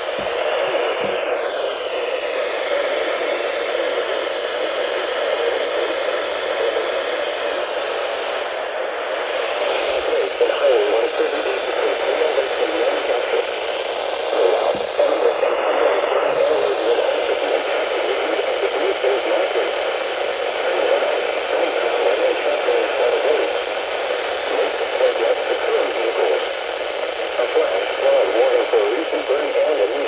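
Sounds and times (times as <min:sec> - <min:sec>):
radio static hiss and crackle: 0:00.0 - 0:30.0.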